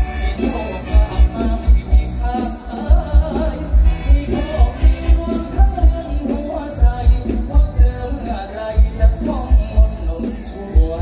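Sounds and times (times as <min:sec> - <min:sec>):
heavy bass beat: 0:00.0 - 0:11.0
live band music over sound system: 0:00.0 - 0:11.0
person singing: 0:00.0 - 0:11.0.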